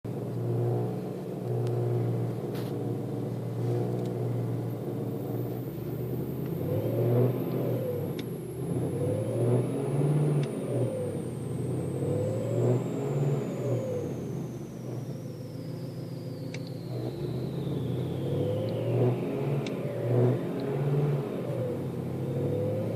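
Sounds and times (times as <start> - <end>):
car engine groaning drone: 0.1 - 22.9.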